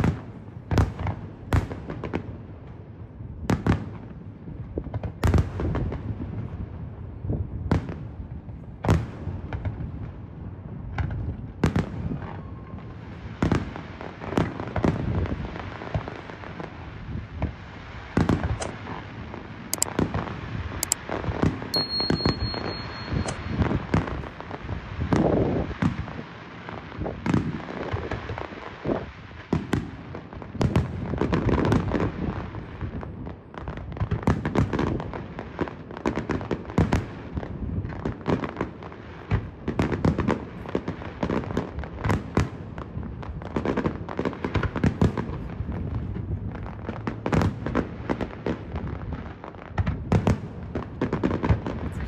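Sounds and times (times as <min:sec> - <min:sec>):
fireworks bangs and booms: 0:00.0 - 0:52.0.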